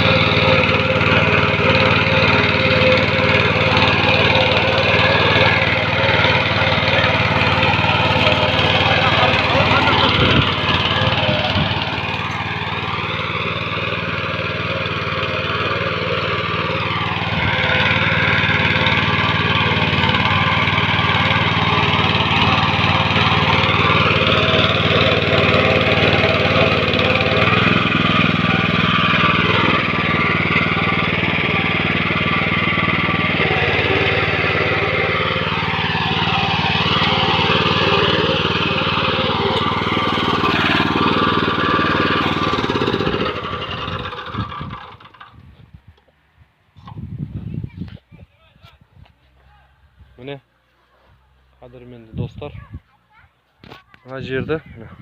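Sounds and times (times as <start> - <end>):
rotary tiller engine running: 0.0 - 45.6.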